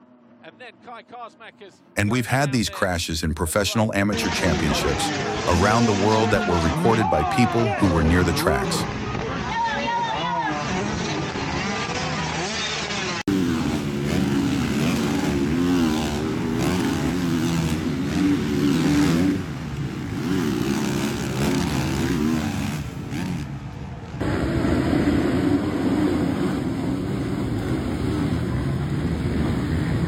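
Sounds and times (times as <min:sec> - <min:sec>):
dirt bike engines revving: 0:02.0 - 0:30.0.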